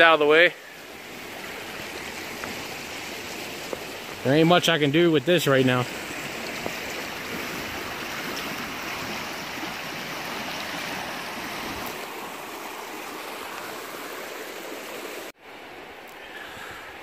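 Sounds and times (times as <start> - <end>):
creek rushing: 0.0 - 17.0.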